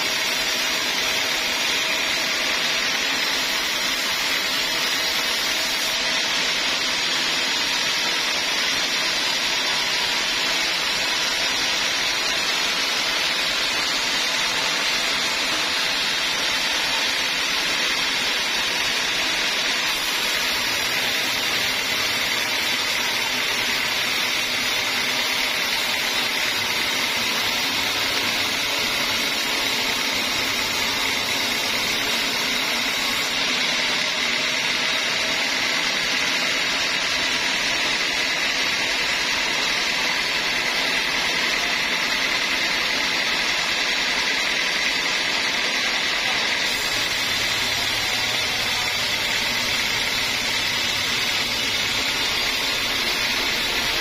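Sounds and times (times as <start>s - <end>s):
band saw whining through log: 0.0s - 54.0s.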